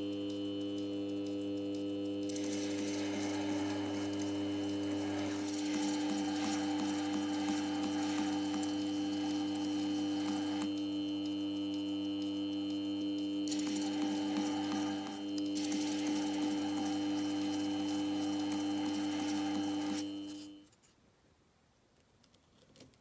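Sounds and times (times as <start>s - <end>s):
tool hissing with faint ticks: 0.0s - 20.6s
small machine humming: 0.0s - 20.7s.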